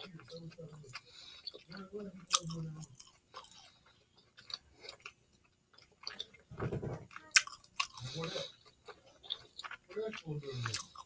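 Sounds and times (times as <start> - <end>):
close chewing with mouth clicks: 0.0 - 11.0.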